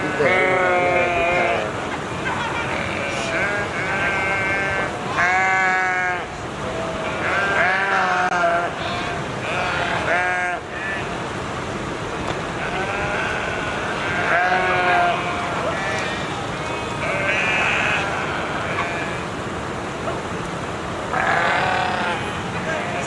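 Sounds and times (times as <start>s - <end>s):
sheep bleating: 0.0s - 1.8s, 2.4s - 11.2s, 12.6s - 19.3s, 21.1s - 23.0s.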